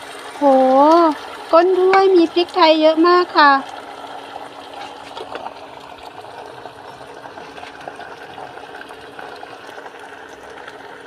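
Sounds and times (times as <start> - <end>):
small crackles of frying oil: 0.0 - 11.0
vegetables sizzling in a pan: 0.0 - 11.0.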